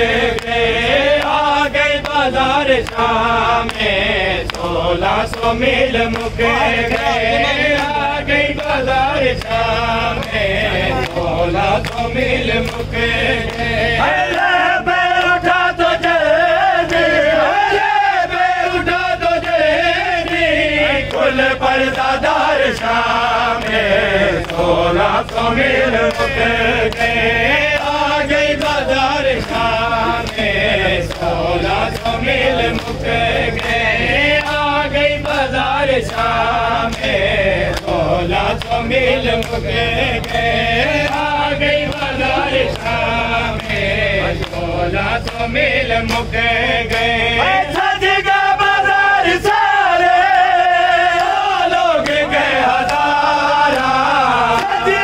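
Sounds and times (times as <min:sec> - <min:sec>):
men chanting a lament in unison: 0:00.0 - 0:55.0.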